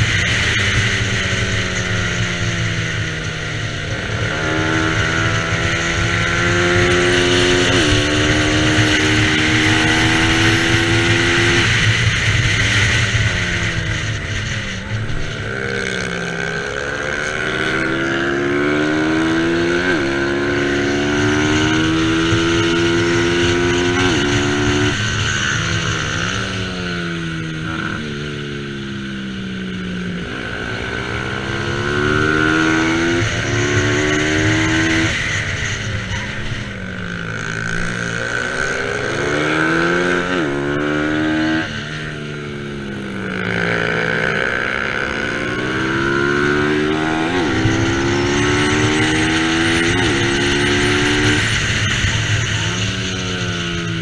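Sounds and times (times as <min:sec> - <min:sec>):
racing motorcycle engines accelerating: 0:00.0 - 0:54.0.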